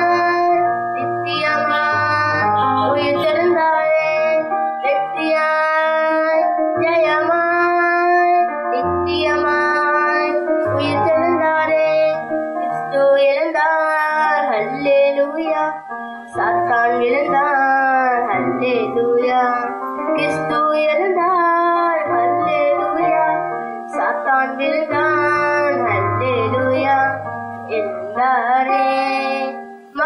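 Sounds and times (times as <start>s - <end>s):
boy singing into a microphone: 0.0s - 30.0s
instrumental accompaniment: 0.0s - 30.0s.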